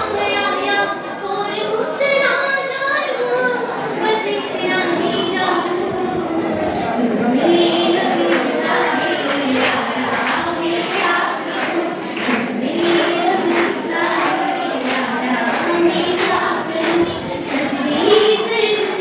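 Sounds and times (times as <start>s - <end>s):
young voices singing together: 0.0s - 19.0s.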